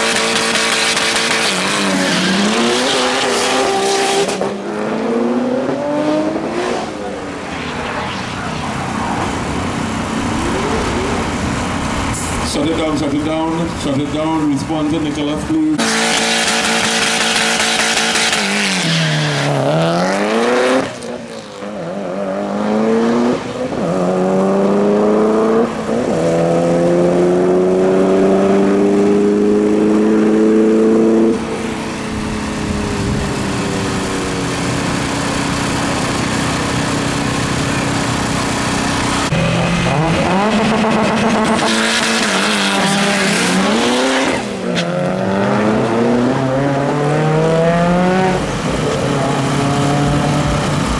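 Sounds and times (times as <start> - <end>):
car engine revving through gears: 0.0 - 8.2, 15.8 - 50.9.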